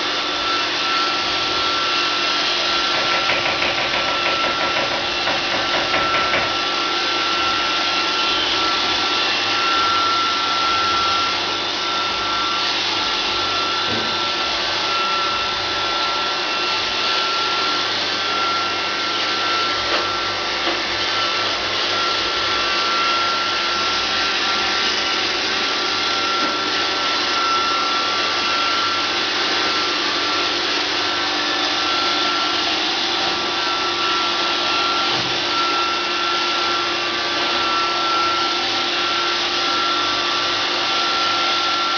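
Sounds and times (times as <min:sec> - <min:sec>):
robot vacuum motors whining: 0:00.0 - 0:41.9.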